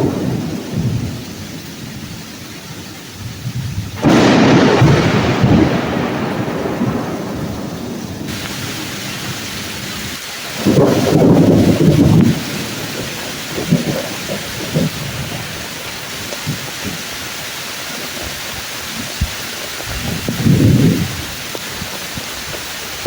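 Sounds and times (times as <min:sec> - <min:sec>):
rain falling: 0:00.0 - 0:23.0
thunder rumbling: 0:00.0 - 0:23.0.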